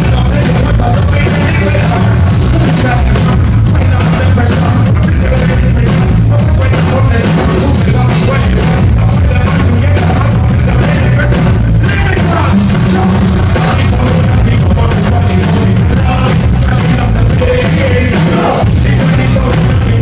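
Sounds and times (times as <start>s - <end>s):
live ska rock band: 0.0s - 20.0s
person singing: 0.0s - 20.0s.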